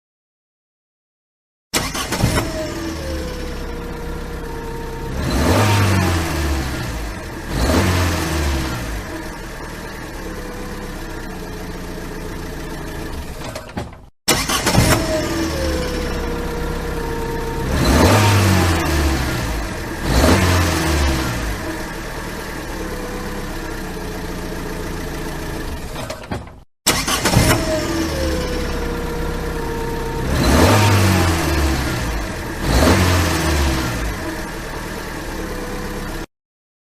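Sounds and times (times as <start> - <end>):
cartoon car engine revving: 1.8 - 13.7, 14.3 - 26.3, 26.9 - 36.3.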